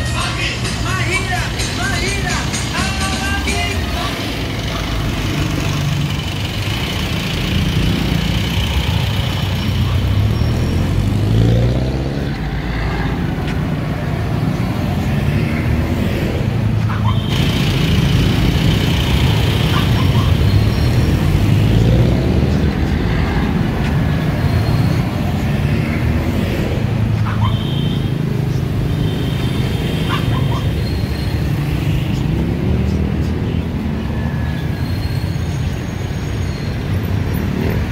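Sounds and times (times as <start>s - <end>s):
engines accelerating: 0.0s - 37.9s
passing car engines: 0.0s - 37.9s.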